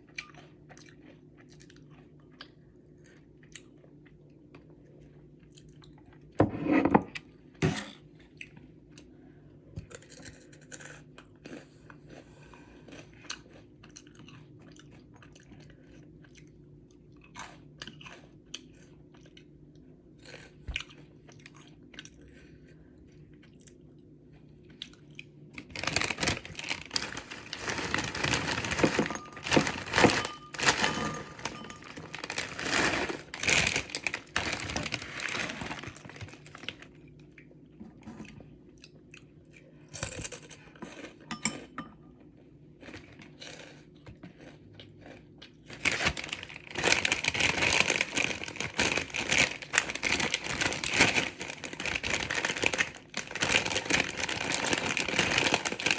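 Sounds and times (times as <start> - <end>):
close chewing of noodles: 0.0 - 4.4, 10.0 - 37.5, 42.4 - 55.9.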